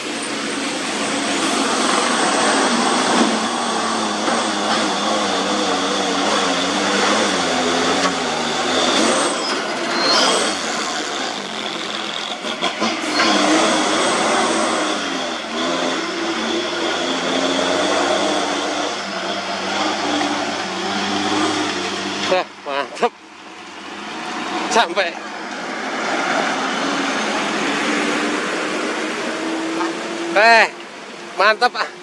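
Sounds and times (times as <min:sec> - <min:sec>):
truck diesel engine labouring: 0:00.0 - 0:32.0.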